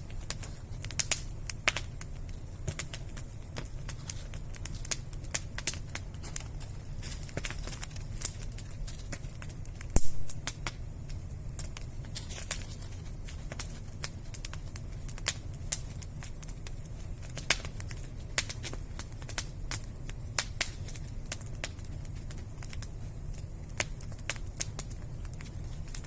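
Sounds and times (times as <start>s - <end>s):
fire low rumble: 0.0s - 26.0s
wood fire crackling: 0.0s - 26.0s.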